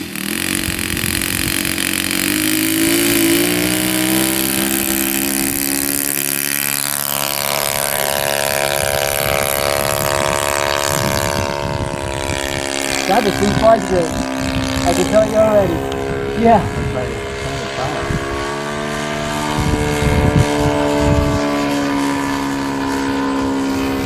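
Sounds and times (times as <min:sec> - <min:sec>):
model plane engine revving: 0:00.0 - 0:24.0.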